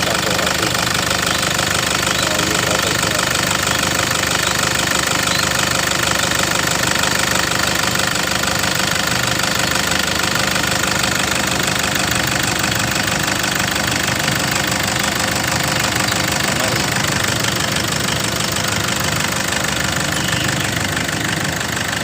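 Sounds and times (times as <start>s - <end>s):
diesel car engine idling: 0.0s - 22.0s.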